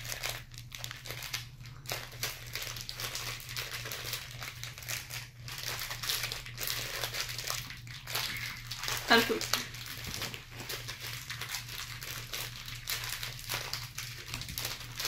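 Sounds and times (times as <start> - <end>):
snack wrappers crinkling: 0.0 - 15.0
steady low hum: 0.0 - 15.0.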